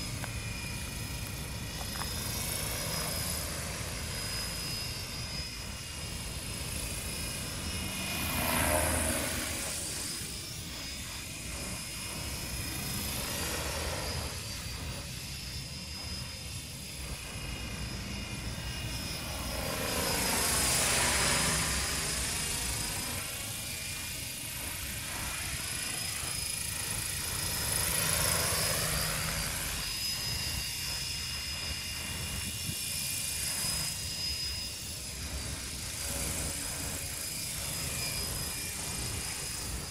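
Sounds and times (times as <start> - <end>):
electric motor whine: 0.0 - 39.9
helicopter rotor whir: 0.0 - 39.9.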